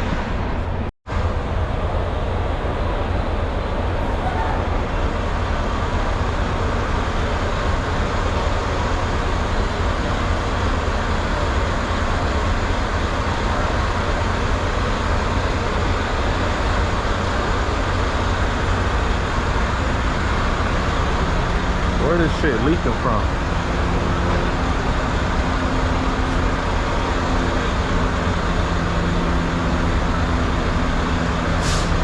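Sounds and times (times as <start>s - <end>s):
road noise: 0.0s - 32.0s
truck diesel engine drone: 0.0s - 32.0s.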